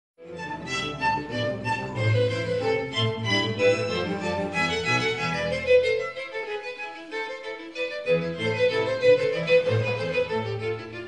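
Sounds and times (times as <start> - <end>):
violins playing melody: 0.2 - 11.0.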